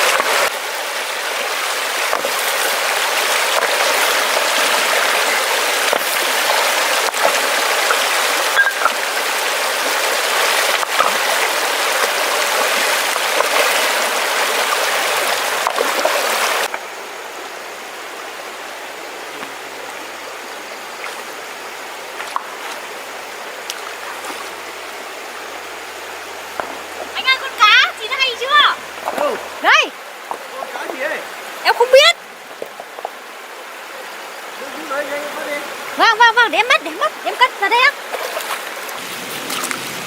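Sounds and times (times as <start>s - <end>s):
stream water flowing: 0.0s - 40.0s.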